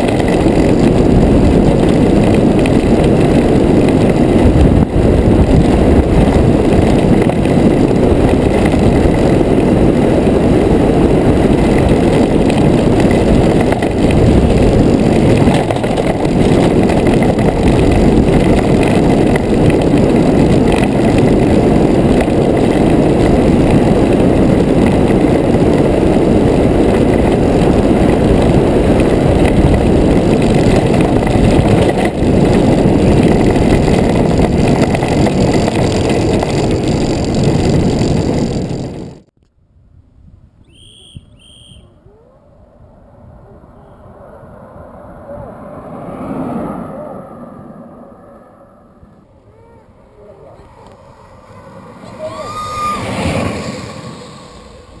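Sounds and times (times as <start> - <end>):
wind and road rushing rumble: 0.0 - 55.0.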